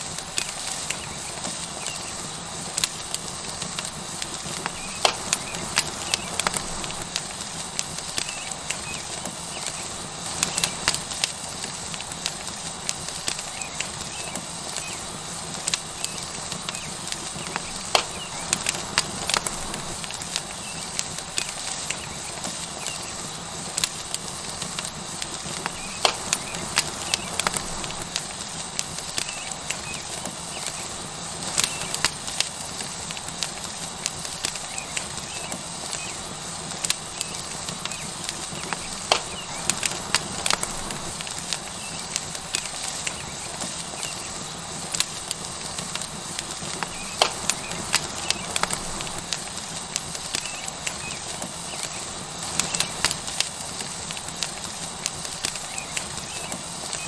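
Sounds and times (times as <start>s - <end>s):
steak sizzling on hot stone: 0.0s - 57.0s
wood fire crackling: 0.0s - 57.0s.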